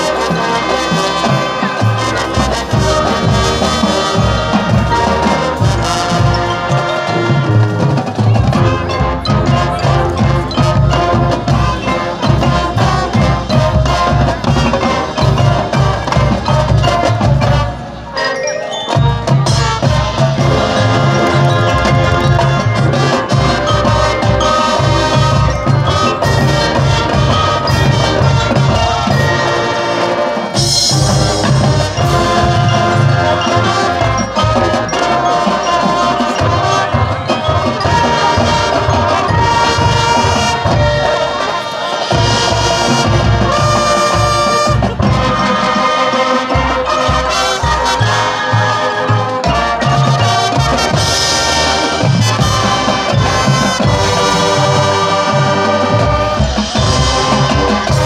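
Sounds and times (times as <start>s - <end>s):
drums: 0.0s - 58.0s
marching band playing: 0.0s - 58.0s
marimbas: 0.0s - 58.0s.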